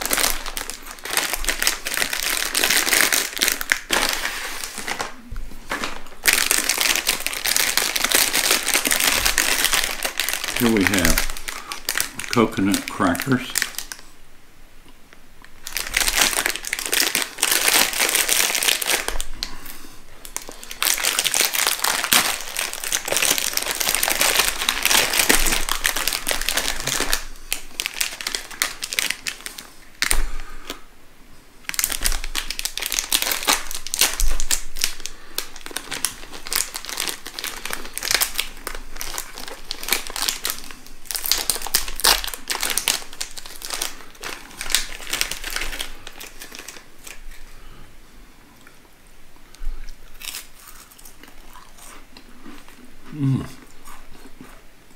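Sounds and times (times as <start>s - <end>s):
plastic wrapper crinkling: 0.0s - 14.1s, 15.5s - 19.5s, 20.2s - 30.8s, 31.6s - 47.6s, 49.5s - 52.0s.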